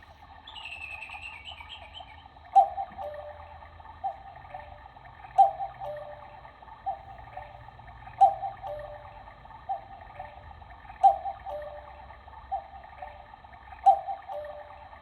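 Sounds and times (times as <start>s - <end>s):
cuckoo clock calling: 0.0s - 15.0s.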